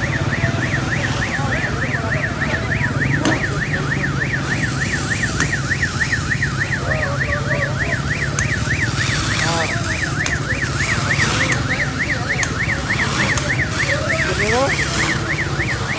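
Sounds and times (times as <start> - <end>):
siren yelping: 0.0 - 15.9.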